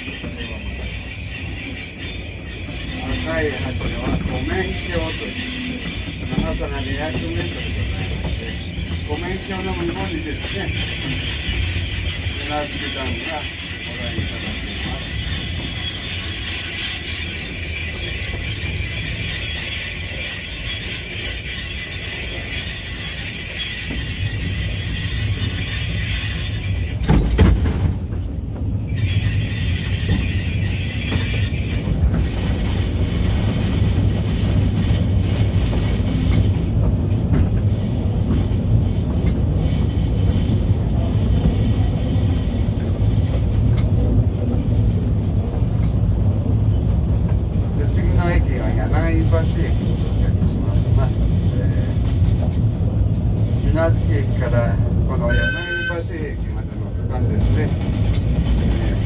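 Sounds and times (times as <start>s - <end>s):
train rumble: 0.0s - 59.0s
train wheels squealing: 0.0s - 59.0s.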